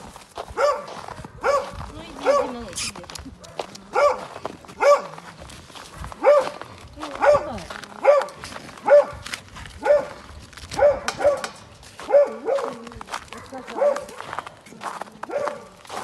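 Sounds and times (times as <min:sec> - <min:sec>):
dog barking: 0:00.5 - 0:02.6, 0:03.4 - 0:05.3, 0:06.2 - 0:16.0.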